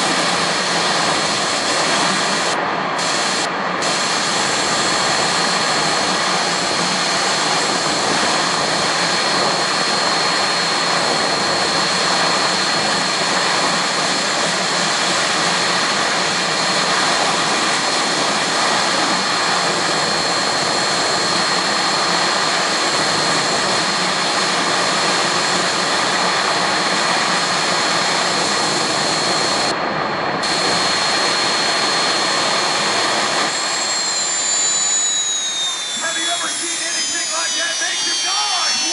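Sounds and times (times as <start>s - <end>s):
high turbine whine: 0.0s - 38.9s
turbine engine roar: 0.0s - 38.9s.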